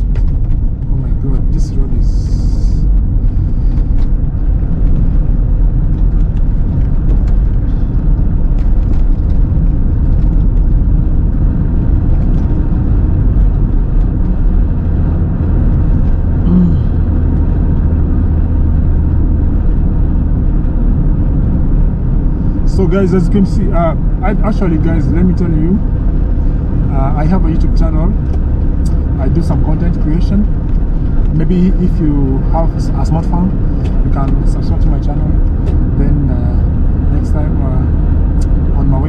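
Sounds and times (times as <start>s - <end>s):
car engine and tyre noise: 0.0s - 39.0s.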